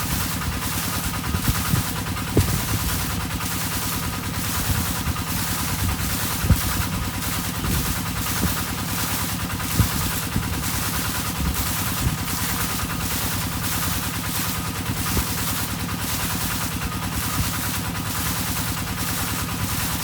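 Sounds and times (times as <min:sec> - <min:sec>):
water pump engine droning: 0:00.0 - 0:20.0.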